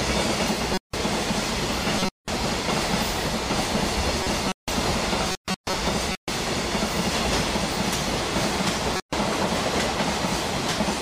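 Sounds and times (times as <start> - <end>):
freight train passing: 0.0 - 11.0.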